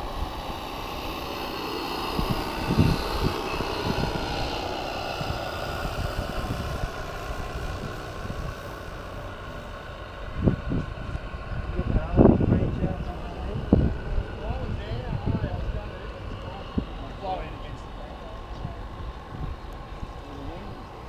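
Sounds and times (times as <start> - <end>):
model steam boat buzzing: 0.0 - 21.0
wind on microphone: 0.0 - 21.0.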